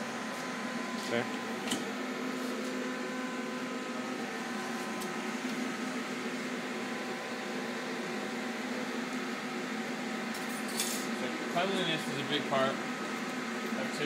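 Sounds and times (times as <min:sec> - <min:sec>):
machine hum with fan noise: 0:00.0 - 0:14.0.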